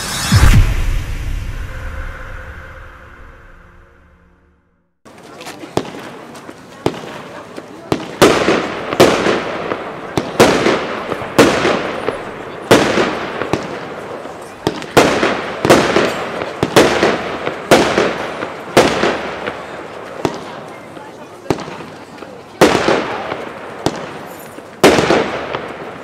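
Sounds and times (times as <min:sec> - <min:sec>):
fireworks bangs: 0:00.0 - 0:04.0, 0:05.7 - 0:26.0.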